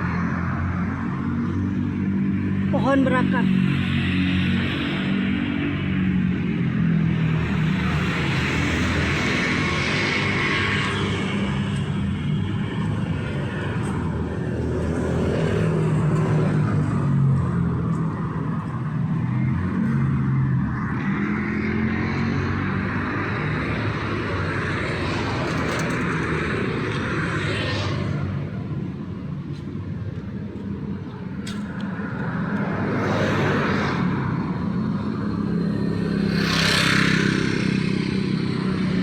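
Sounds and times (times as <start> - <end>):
road traffic passing: 0.0 - 39.0.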